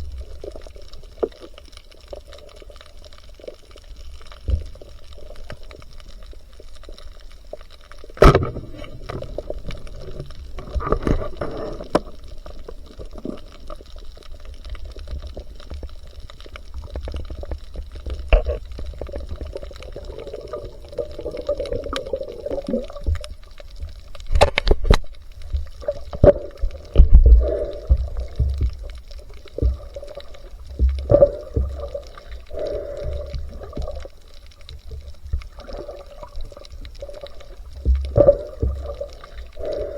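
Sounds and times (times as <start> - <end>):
muffled water gurgling: 0.0 - 39.9.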